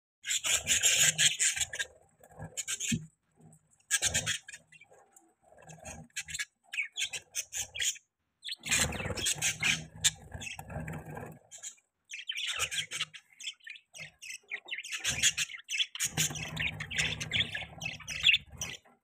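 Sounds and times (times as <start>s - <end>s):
budgerigars chirping and chattering: 0.2s - 3.2s, 3.8s - 19.0s.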